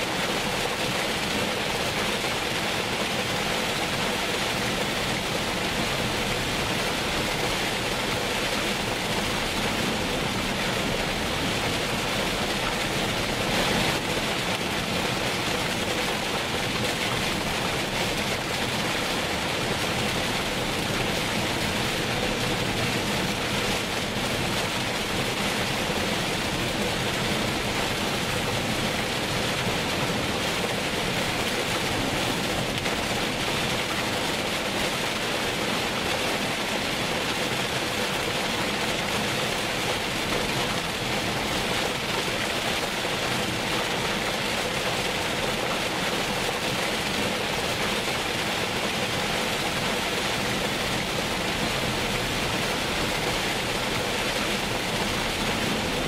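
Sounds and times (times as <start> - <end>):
heavy rain on car: 0.0 - 56.0
tyres on wet road: 0.0 - 56.0.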